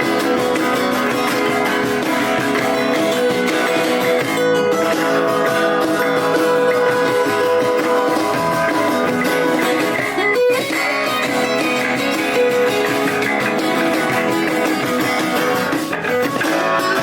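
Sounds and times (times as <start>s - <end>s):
live band playing: 0.0s - 17.0s
strummed and picked guitars: 0.0s - 17.0s.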